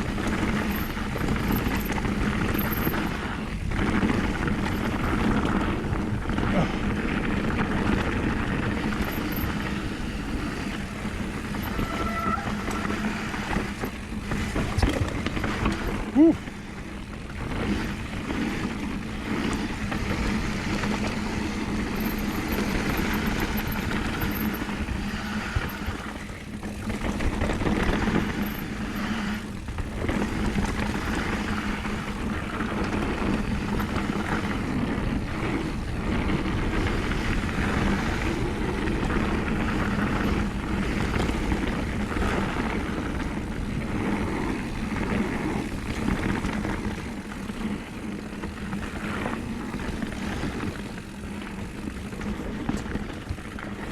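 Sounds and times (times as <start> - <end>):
bike rattling: 0.0 - 53.9
bike tyres rumbling over dirt: 0.0 - 53.9.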